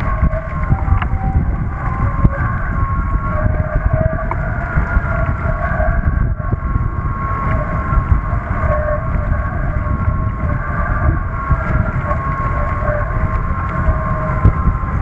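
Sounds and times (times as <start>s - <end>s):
hydrofoils whining: 0.0s - 15.0s
water rushing: 0.0s - 15.0s
wind buffeting microphone: 0.0s - 15.0s.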